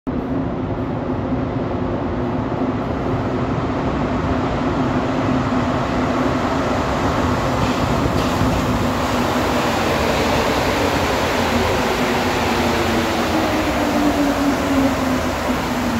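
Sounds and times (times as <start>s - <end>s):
metro train rumbling in tunnel: 0.1s - 15.9s.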